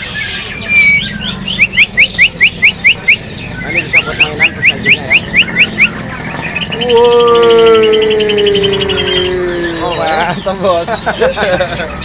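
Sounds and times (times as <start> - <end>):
bird whistling song: 0.0 - 11.4.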